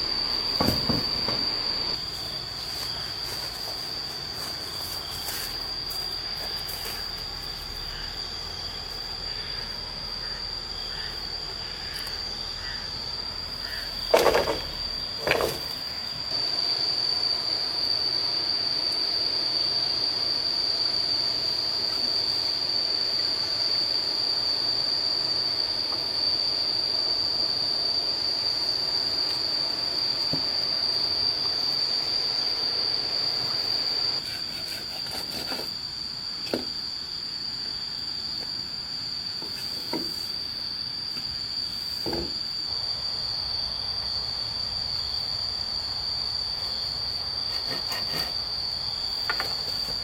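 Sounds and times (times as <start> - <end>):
high-pitched insect drone: 0.0 - 50.0.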